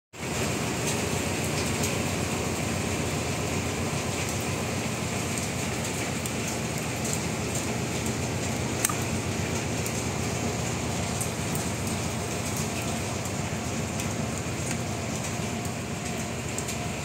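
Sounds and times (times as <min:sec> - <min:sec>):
low machinery hum: 0:00.2 - 0:17.0
rain on a steel deck: 0:00.2 - 0:17.0.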